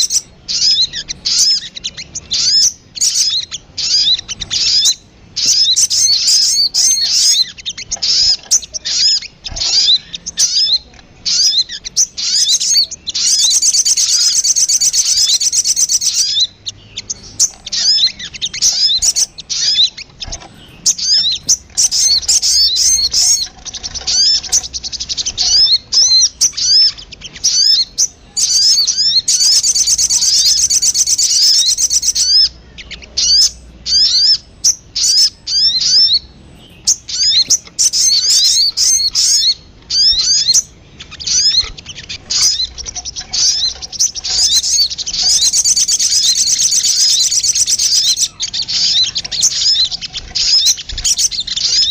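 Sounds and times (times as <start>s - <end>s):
bird chip notes and trills: 0.0s - 51.9s.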